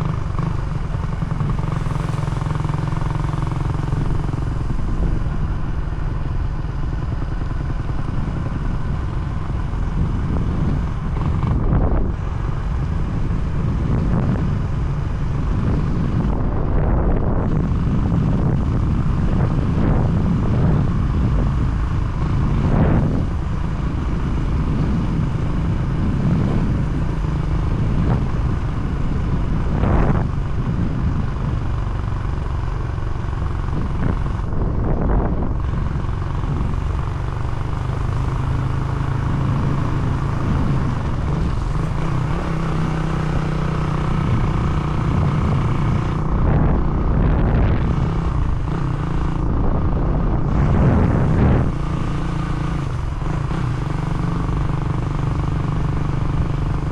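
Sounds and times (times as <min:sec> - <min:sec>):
low rumble: 0:00.0 - 0:56.9
vehicle engine running: 0:00.0 - 0:56.9.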